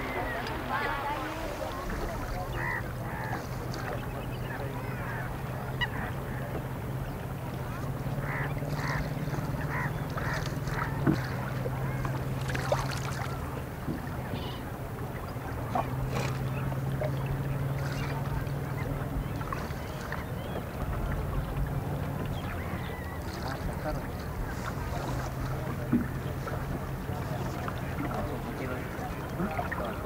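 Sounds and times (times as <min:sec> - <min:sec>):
boat motor hum: 0:00.0 - 0:30.0
waterbirds calling: 0:00.0 - 0:30.0.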